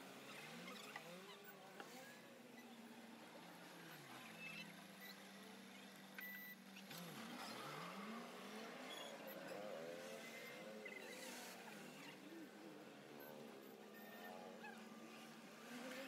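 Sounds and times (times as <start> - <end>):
faint engine hum: 0.0 - 16.0.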